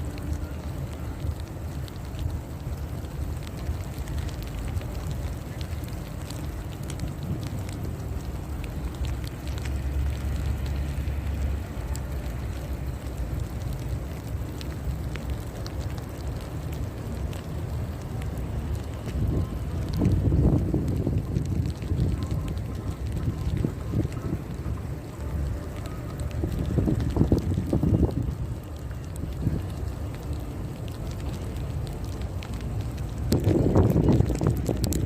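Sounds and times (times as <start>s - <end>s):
light crackles: 0.0s - 35.0s
storm wind buffeting microphone: 0.0s - 35.0s.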